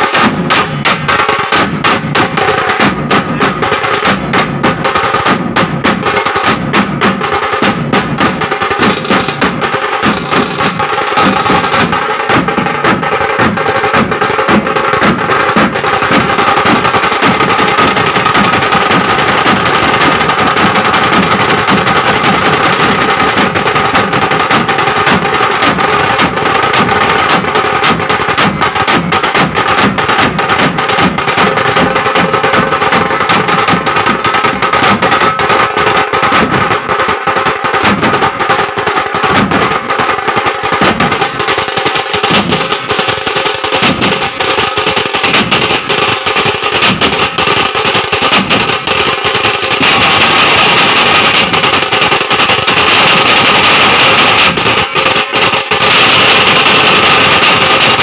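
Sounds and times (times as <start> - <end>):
drums beaten with sticks: 0.0 - 58.0
heavy low drum beat: 0.0 - 58.0.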